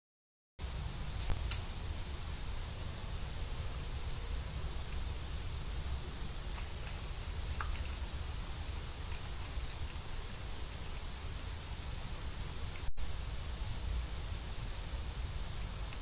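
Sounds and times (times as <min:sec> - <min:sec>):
outdoor hiss and low rumble: 0:00.6 - 0:16.0.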